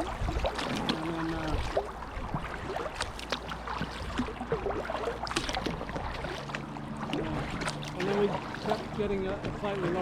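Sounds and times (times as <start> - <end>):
paddle splashes and drips: 0.0 - 10.0.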